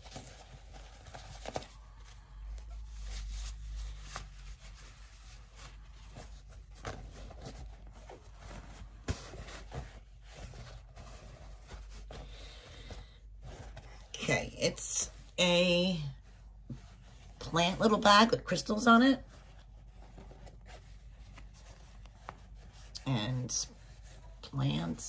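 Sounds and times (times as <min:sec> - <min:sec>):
fabric bag rustling: 0:00.0 - 0:24.4.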